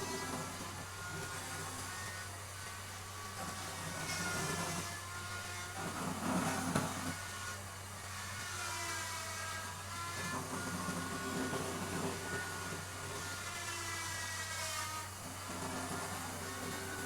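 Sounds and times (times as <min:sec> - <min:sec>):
power tool whining: 0:00.0 - 0:17.0.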